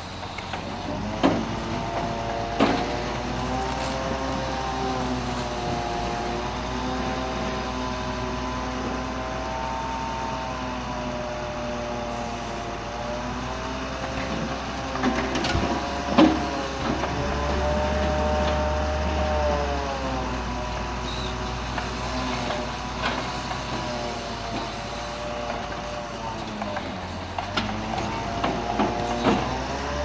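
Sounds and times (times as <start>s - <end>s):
crane hydraulics whining: 0.0s - 30.0s
truck engine running: 0.0s - 30.0s.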